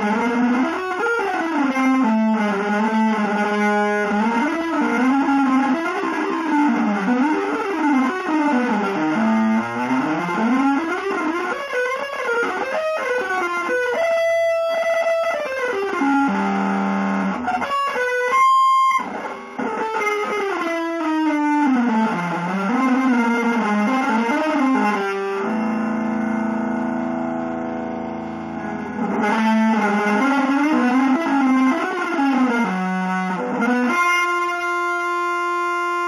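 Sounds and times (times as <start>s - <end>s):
electric guitar melody with effects: 0.0s - 36.0s.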